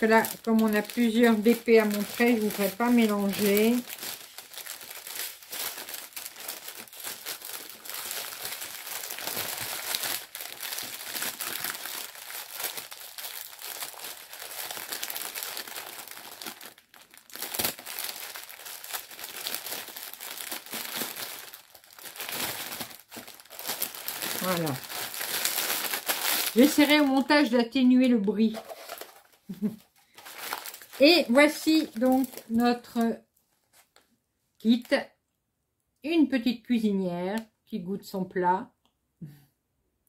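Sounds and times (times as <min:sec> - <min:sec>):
plastic packaging crinkling: 0:00.0 - 0:34.1.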